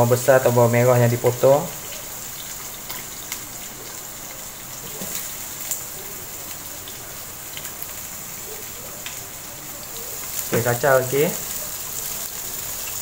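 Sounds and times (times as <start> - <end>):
spices sizzling in oil: 0.0 - 13.0.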